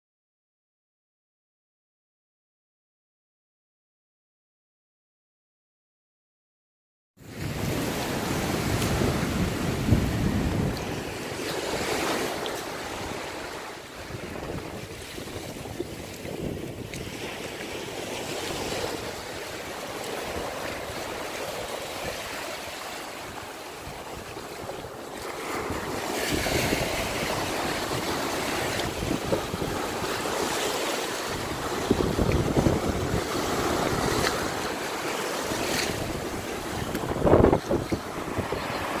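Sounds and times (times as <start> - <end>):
surf waves washing over sand: 7.2 - 39.0
wind buffeting microphone: 7.3 - 39.0.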